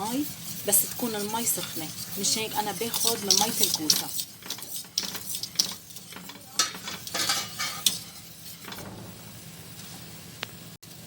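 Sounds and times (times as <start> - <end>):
spoon scraping a pot: 0.0 - 9.0.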